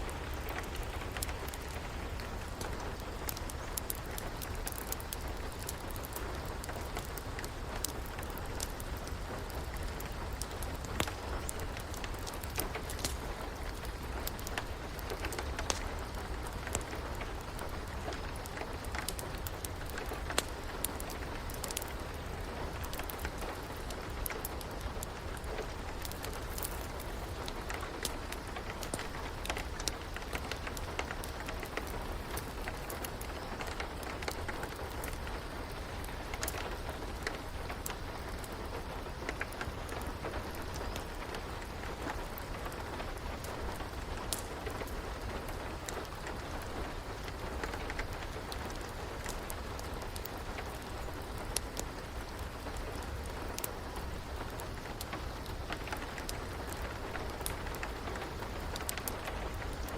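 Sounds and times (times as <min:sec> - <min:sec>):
steady rain: 0:00.0 - 0:59.9
wood fire popping and crackling: 0:00.0 - 0:59.9.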